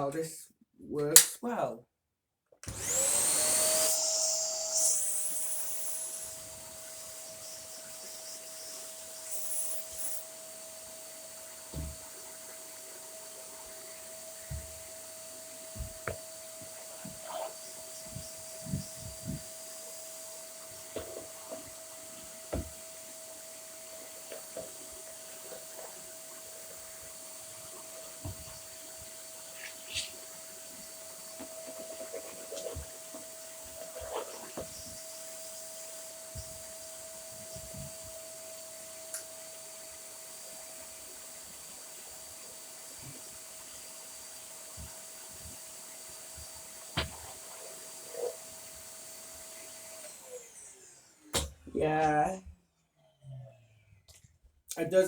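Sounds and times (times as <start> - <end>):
vacuum cleaner motor humming: 2.6 - 52.4.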